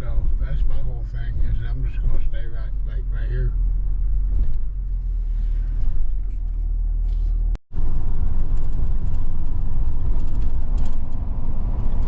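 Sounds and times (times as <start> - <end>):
vehicle road and engine noise: 0.0 - 12.0.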